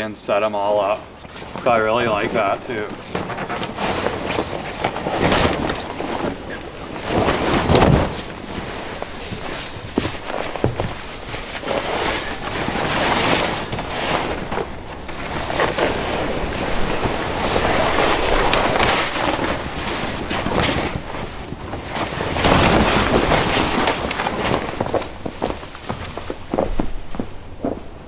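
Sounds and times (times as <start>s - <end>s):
insulated fabric rustling: 0.3s - 28.0s.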